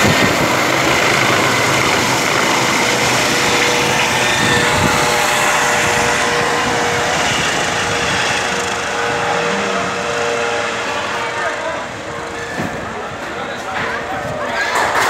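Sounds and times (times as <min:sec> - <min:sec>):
helicopter rotor and engine: 0:00.0 - 0:14.0
thin high whine: 0:00.8 - 0:13.2.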